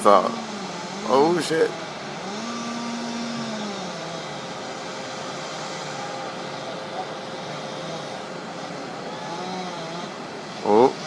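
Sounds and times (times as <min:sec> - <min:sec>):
distant machinery engine hum: 0:00.0 - 0:11.0.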